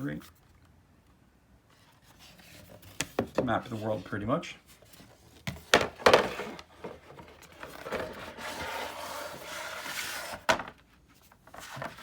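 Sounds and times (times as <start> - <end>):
cardboard sliding and rubbing: 1.7 - 12.0.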